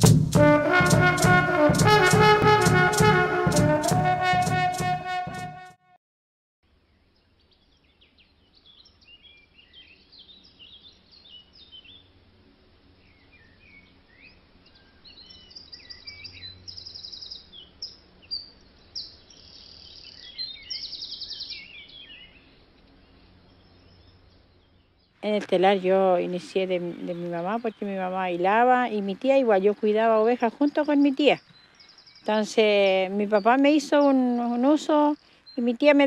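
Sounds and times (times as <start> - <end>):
faint outdoor background: 0.0 - 6.0, 6.6 - 36.0
songbirds chirping and trilling: 6.7 - 36.0.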